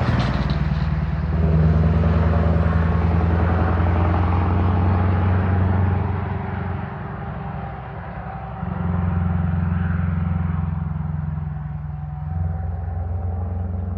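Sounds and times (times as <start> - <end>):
truck engine rumbling: 0.0 - 13.9.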